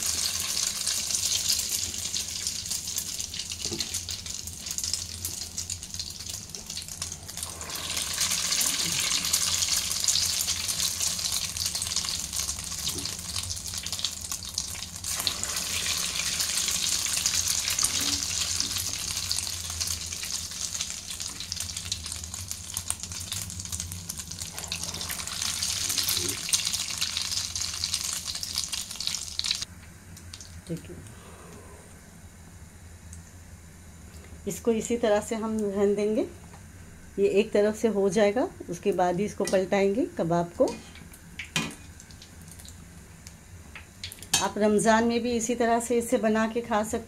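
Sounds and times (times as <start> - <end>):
food deep-frying in oil: 0.0 - 30.8, 38.0 - 46.2.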